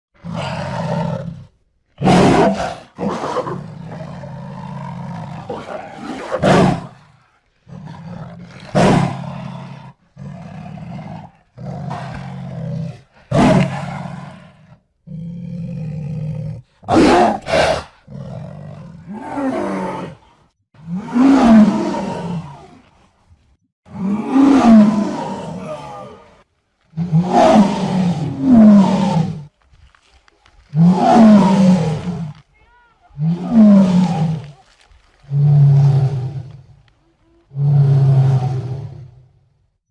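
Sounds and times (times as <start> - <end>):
jaguar roaring and grunting: 0.2 - 23.1, 23.9 - 29.5, 30.7 - 32.4, 33.0 - 36.8, 37.5 - 39.3.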